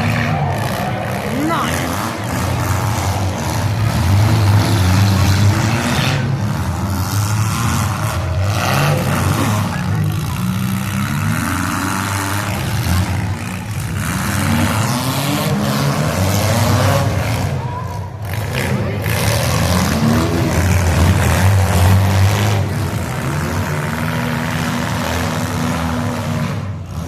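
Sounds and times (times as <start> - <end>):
car engines revving hard: 0.0 - 27.0.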